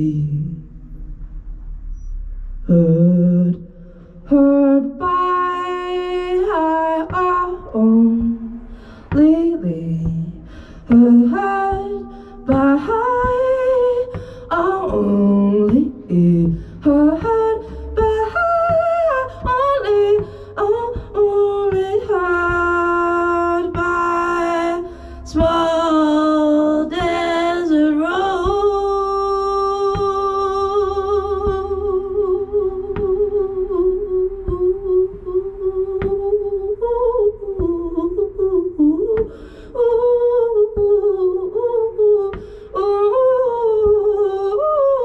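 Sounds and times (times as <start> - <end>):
woman singing wordlessly: 0.0 - 0.7, 2.7 - 45.0.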